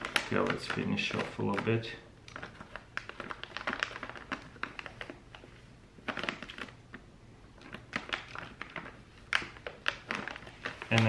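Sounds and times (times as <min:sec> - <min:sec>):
foil bag crinkling: 0:00.0 - 0:11.0.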